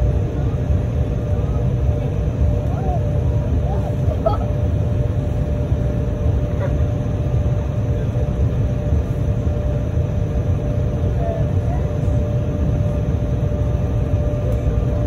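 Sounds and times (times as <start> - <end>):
jet engines idling rumble: 0.0 - 15.0
mid-pitched hum: 0.0 - 15.0.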